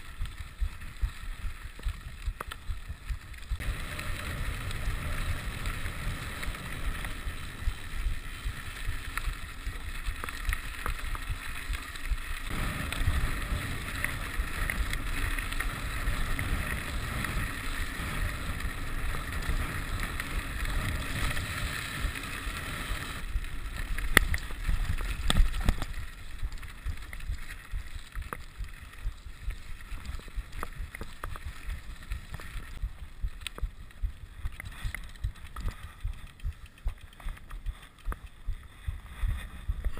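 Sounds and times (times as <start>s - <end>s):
bike frame rattling: 0.0s - 39.9s
bike tyres crunching on gravel: 0.0s - 39.9s.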